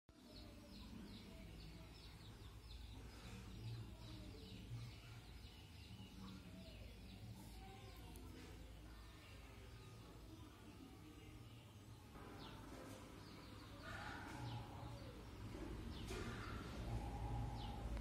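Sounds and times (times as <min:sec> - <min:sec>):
faint bird chirping: 0:00.1 - 0:18.0.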